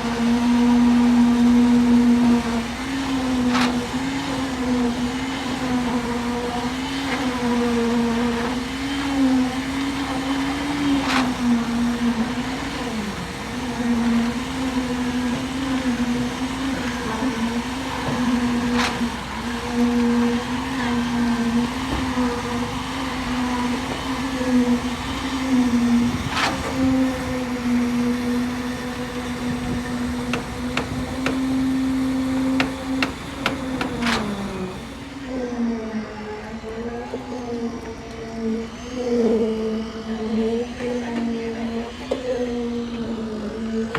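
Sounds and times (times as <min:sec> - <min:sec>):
construction machinery motor humming: 0:00.0 - 0:36.7.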